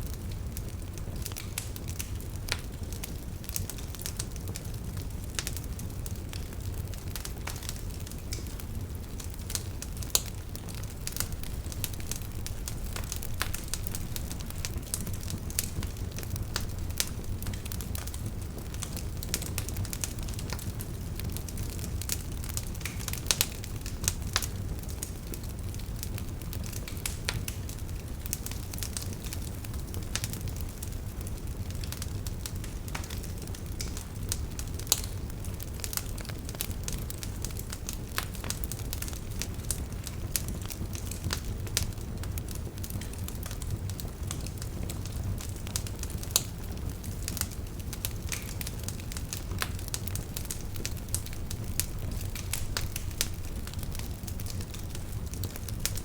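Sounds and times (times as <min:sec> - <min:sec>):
campfire flames rumbling: 0:00.0 - 0:56.0
fire crackling and popping: 0:00.0 - 0:56.0.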